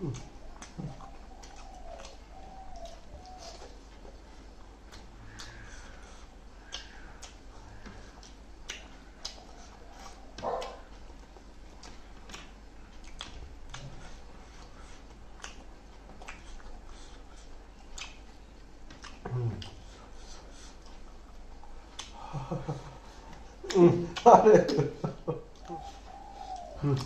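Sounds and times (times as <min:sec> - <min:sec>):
people chewing and lip-smacking: 0:00.0 - 0:27.0
short hum-like vocal sound: 0:00.0 - 0:27.0.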